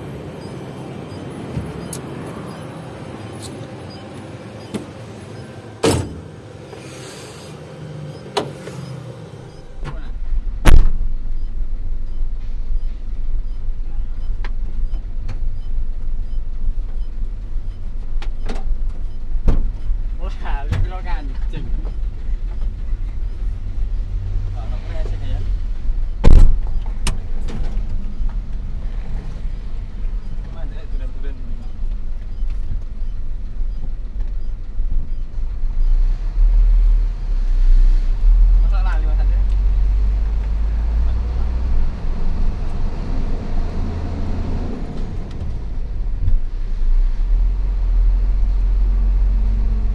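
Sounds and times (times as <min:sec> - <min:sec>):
road noise: 0:00.0 - 0:49.9
truck engine low rumble: 0:00.0 - 0:49.9.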